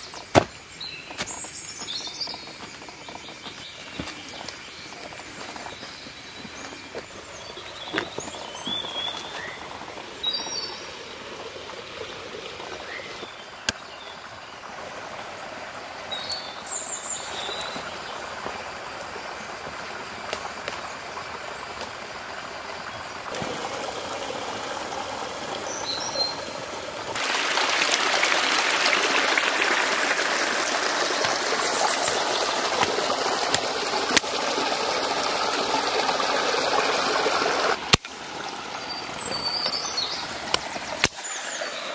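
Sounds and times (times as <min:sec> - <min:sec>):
birds chirping: 0:00.0 - 0:10.8, 0:16.1 - 0:23.4, 0:25.3 - 0:37.8, 0:38.8 - 0:41.9
rushing running water: 0:00.0 - 0:41.9.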